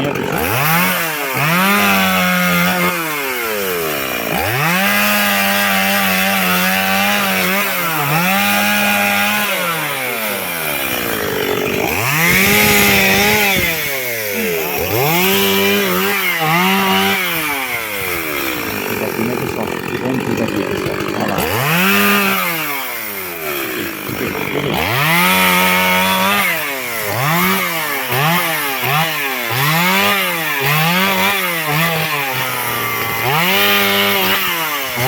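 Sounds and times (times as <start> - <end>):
chainsaw revving and idling: 0.0 - 35.0.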